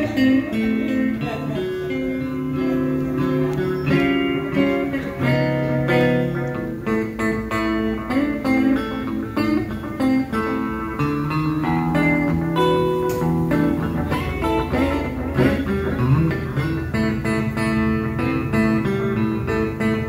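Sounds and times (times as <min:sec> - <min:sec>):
electric guitar through amplifier: 0:00.0 - 0:20.0.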